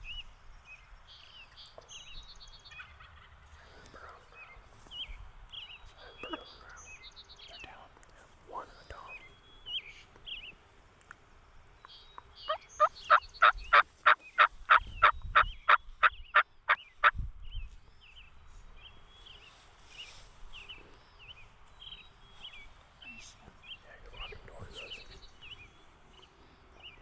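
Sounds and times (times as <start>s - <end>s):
songbird chirps: 0.0s - 27.0s.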